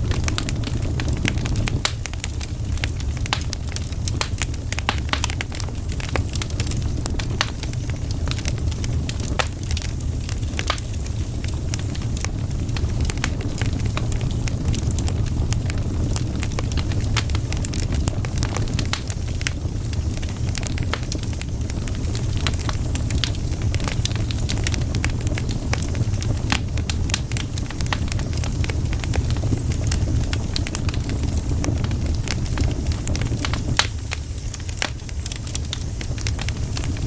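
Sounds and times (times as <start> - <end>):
low fire rumble: 0.0 - 37.0
wood fire crackling and popping: 0.0 - 37.0.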